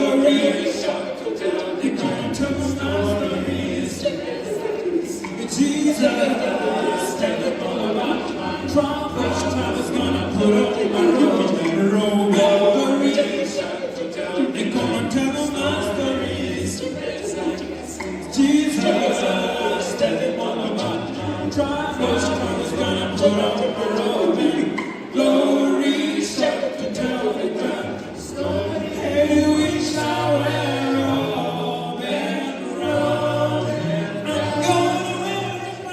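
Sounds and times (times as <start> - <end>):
a cappella group singing: 0.0 - 35.9.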